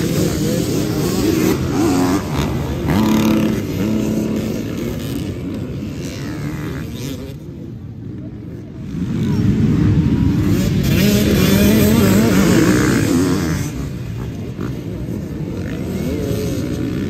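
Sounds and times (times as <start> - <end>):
dirt bikes revving and racing past: 0.0 - 17.0.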